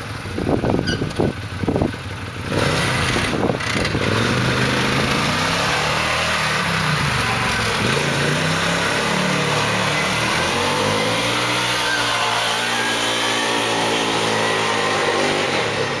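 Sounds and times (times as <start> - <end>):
vehicle engine revving: 0.6 - 16.0.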